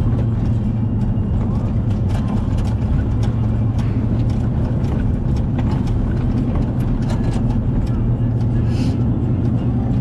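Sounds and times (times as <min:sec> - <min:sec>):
vehicle engine and road noise: 0:00.0 - 0:10.0
light ticks and rattles: 0:00.1 - 0:08.6.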